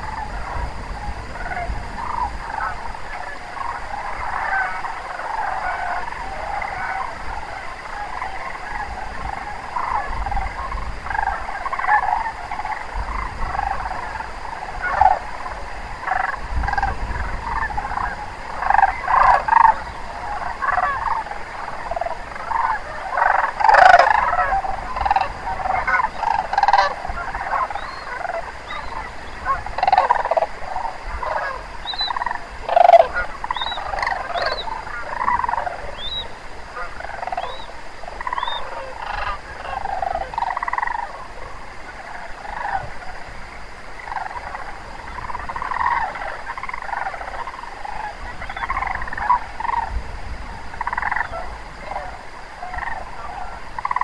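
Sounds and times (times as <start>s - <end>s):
cranes calling in chorus: 0.0s - 54.0s.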